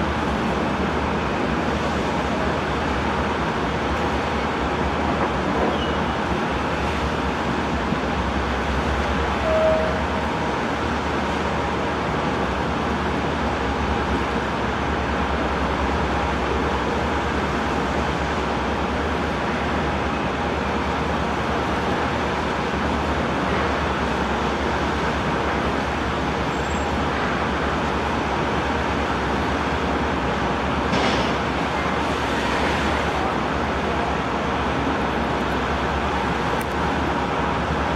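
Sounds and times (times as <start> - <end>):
ferry engines and waterjets running: 0.0 - 37.9.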